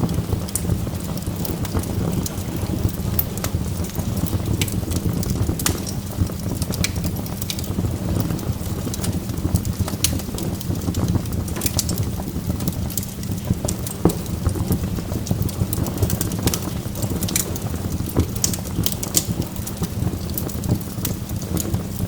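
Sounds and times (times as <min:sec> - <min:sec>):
fire low rumble: 0:00.0 - 0:22.0
wood fire crackling and popping: 0:00.0 - 0:22.0.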